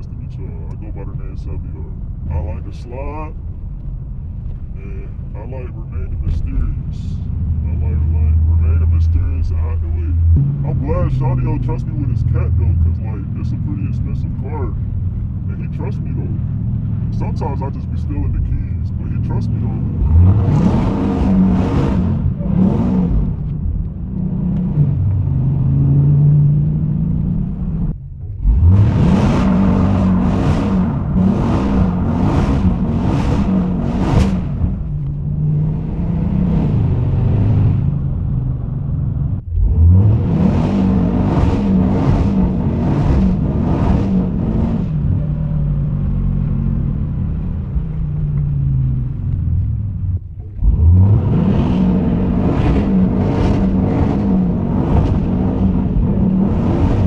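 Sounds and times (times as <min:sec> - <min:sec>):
car engine revving hard: 0:04.8 - 0:49.8, 0:50.4 - 0:57.0.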